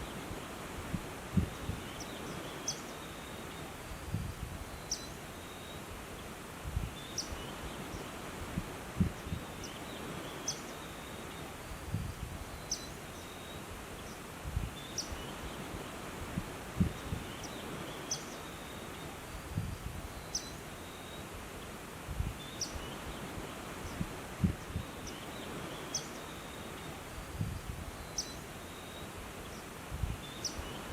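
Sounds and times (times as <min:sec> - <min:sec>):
steady background hiss: 0:00.0 - 0:30.9.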